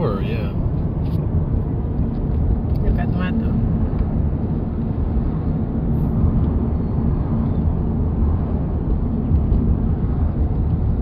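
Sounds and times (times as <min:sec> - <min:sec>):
road and wind noise in car: 0:00.0 - 0:11.0.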